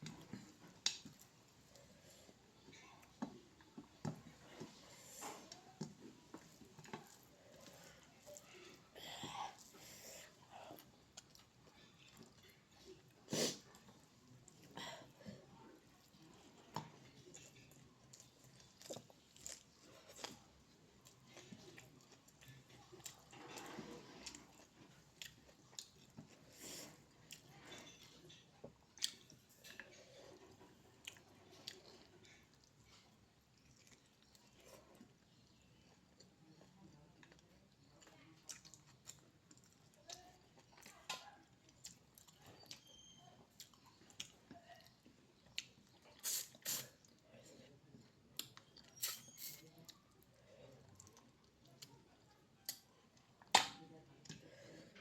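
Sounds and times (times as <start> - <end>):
chewing food: 0.0 - 55.0.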